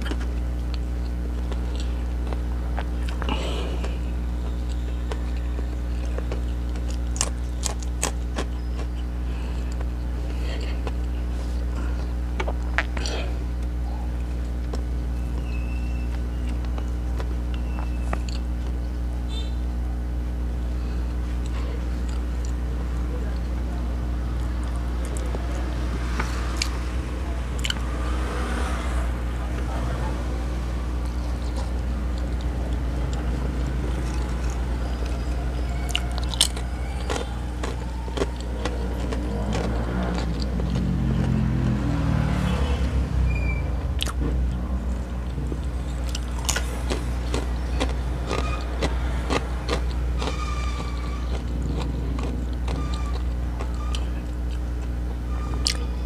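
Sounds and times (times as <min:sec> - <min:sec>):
chewing and crunching: 0:00.0 - 0:19.1, 0:20.4 - 0:27.9, 0:29.5 - 0:42.4, 0:43.8 - 0:56.0
steady low hum: 0:00.0 - 0:56.0.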